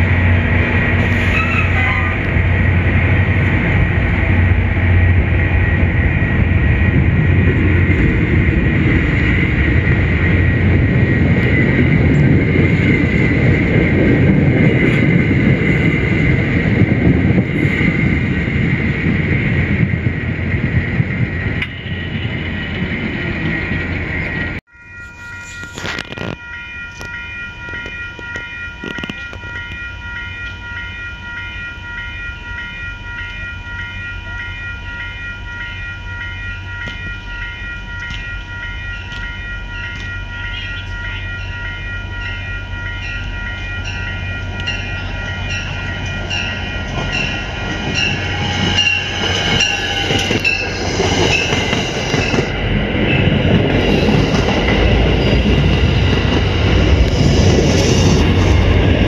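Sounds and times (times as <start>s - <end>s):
crossing warning bell ringing: 0.0s - 20.0s, 21.4s - 59.0s
train wheels rumbling on rails: 0.0s - 59.0s.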